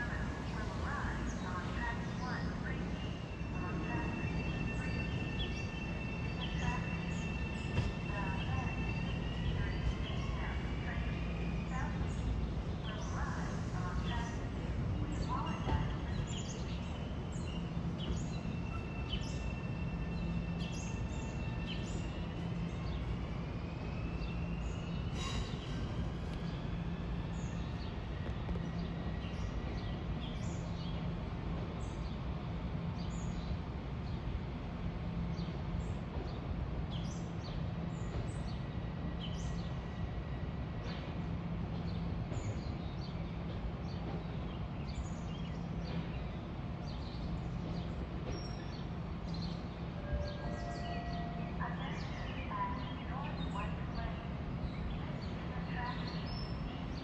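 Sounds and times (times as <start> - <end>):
birds chirping: 0.2 - 57.0.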